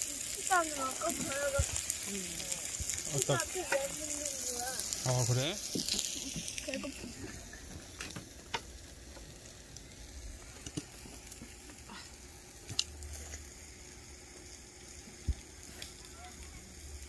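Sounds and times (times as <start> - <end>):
food sizzling in a pan: 0.0 - 17.0
sharp popping of frying food: 0.0 - 17.0.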